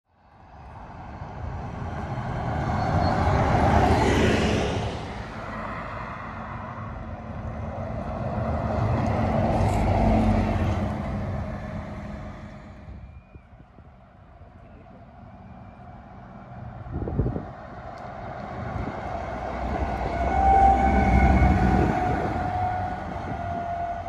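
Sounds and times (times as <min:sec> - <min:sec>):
buses driving past: 0:00.1 - 0:24.0
car passing: 0:00.6 - 0:24.0.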